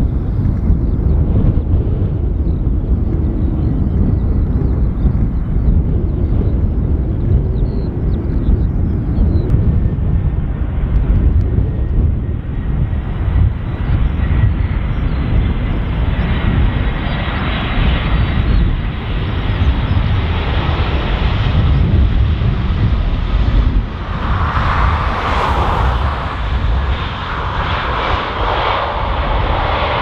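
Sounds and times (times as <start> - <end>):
jet engines passing: 0.0 - 30.0
wind rumble on microphone: 0.0 - 30.0.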